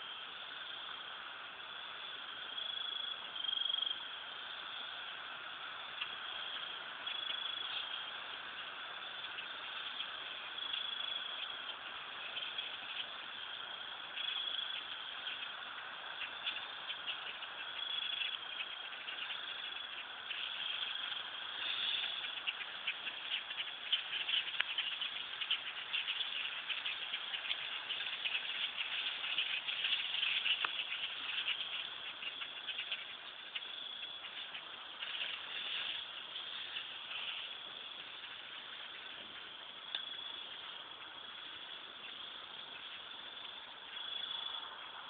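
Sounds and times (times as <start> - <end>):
flock of birds chattering: 0.0 - 45.0.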